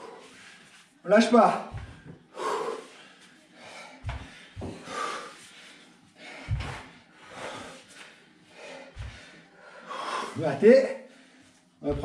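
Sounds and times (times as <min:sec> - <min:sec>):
man breathing hard: 0:00.0 - 0:00.8, 0:01.7 - 0:12.0.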